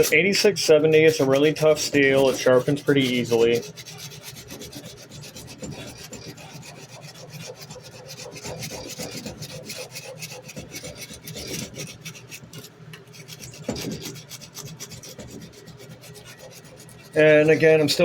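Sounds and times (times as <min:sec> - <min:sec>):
sandpaper rubbing on steel blade: 0:00.0 - 0:18.0.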